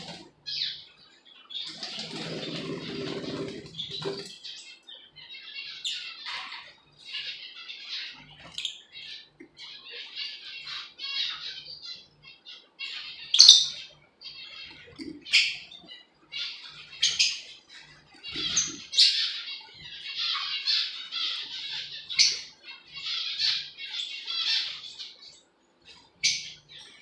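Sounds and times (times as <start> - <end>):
lovebirds chirping: 0.0 - 27.0.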